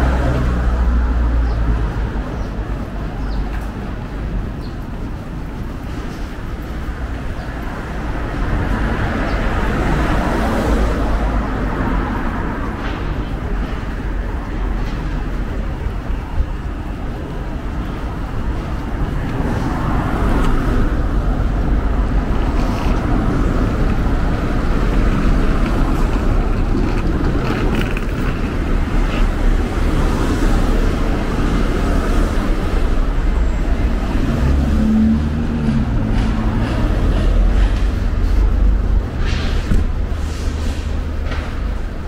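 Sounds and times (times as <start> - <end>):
engine hum: 0.0 - 42.0
passing cars rumbling: 0.0 - 42.0.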